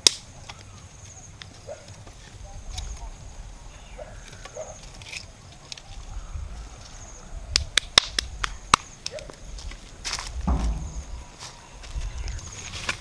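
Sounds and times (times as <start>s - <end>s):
sticks cracking in a fire: 0.0s - 3.2s, 4.0s - 6.2s, 6.8s - 13.0s
low outdoor background: 0.0s - 13.0s.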